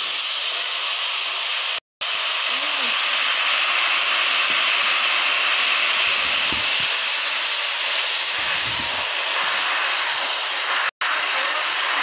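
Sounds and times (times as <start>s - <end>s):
loud steady hiss: 0.0s - 12.0s.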